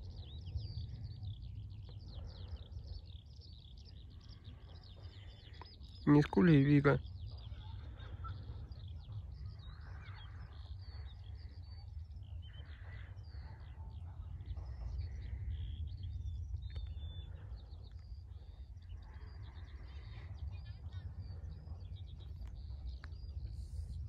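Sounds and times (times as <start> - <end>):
birds chirping: 0.0 - 24.0
steady low rumble: 0.0 - 24.0.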